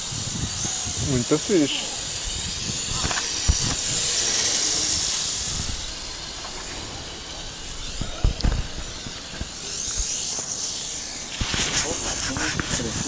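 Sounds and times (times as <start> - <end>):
wind hiss on microphone: 0.0 - 13.0.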